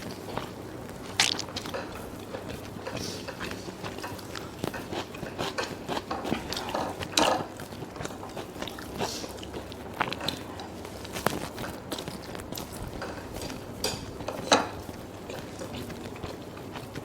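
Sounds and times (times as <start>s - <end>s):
chewing and biting: 0.0s - 17.0s.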